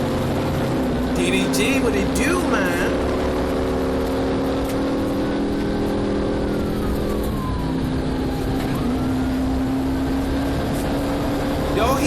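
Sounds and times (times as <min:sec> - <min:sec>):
car engine running hard: 0:00.0 - 0:12.0
road and wind noise: 0:00.0 - 0:12.0.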